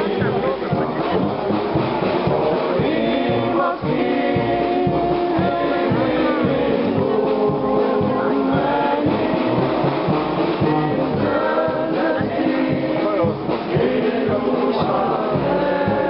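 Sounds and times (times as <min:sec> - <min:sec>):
steady low beat: 0:00.0 - 0:16.0
wind band sustained chords: 0:00.0 - 0:16.0.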